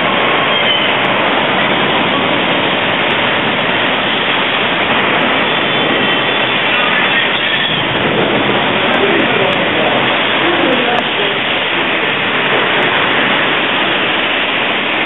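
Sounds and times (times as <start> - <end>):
torrential wind-driven rain: 0.0 - 15.0.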